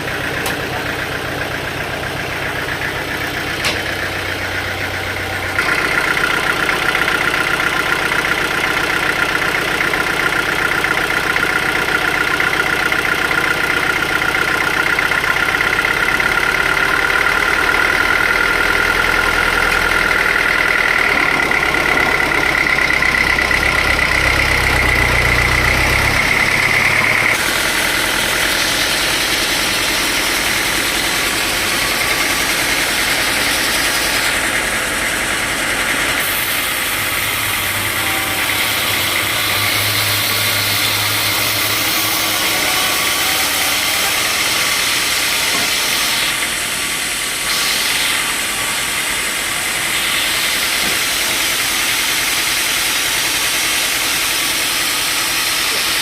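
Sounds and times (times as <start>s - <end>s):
high machine whine: 0.0s - 56.0s
sawmill machinery running: 0.0s - 56.0s.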